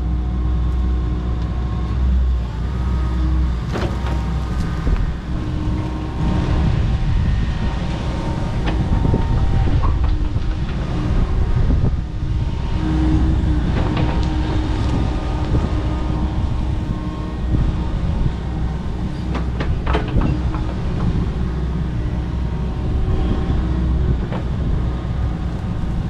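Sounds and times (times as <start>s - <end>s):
excavator engine rumbling: 0.0s - 26.0s.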